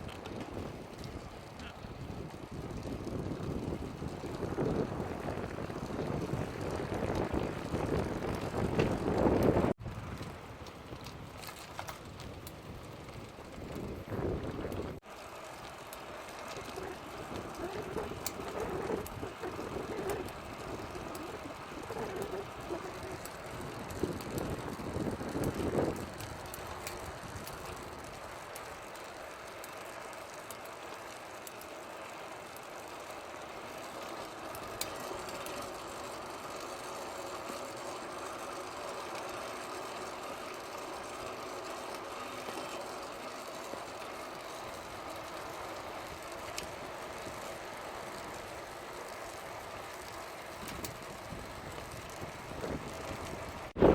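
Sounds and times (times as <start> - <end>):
bicycle chain whirring: 0.0 - 53.9.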